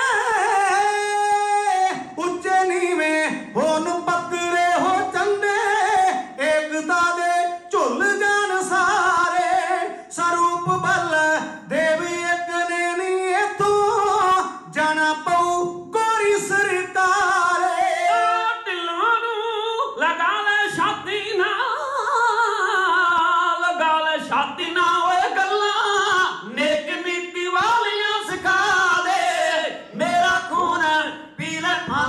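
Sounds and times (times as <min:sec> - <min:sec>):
men singing unaccompanied: 0:00.0 - 0:32.0.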